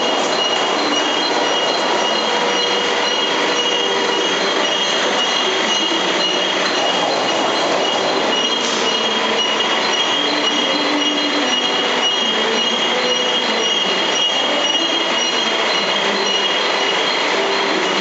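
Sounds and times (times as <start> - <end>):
conveyor machinery: 0.0 - 18.0
high-pitched whining tones: 0.0 - 18.0.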